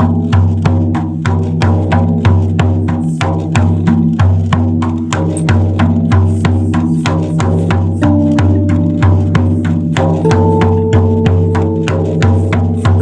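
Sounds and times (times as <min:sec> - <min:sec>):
deep drum beating steadily: 0:00.0 - 0:13.0.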